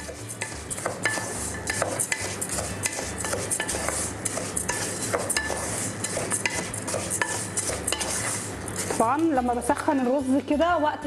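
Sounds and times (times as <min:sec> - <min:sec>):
spatula scraping rice in pot: 0:00.0 - 0:09.2.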